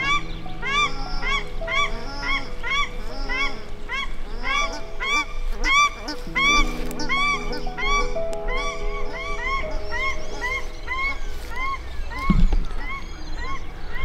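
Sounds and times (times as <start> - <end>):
shelducks honking: 0.0 - 14.0
soft background music: 0.0 - 14.0.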